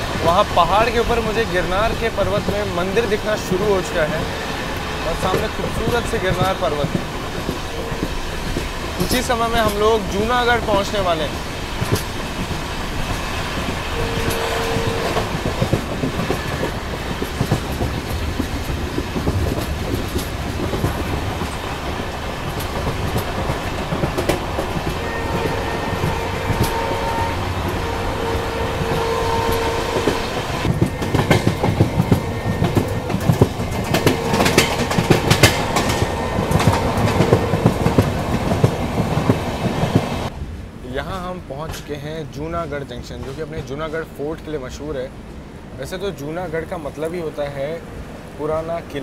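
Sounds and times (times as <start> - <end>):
train wheel and rail noise: 0.0 - 49.0
wheels clacking over rail joints: 0.0 - 49.0.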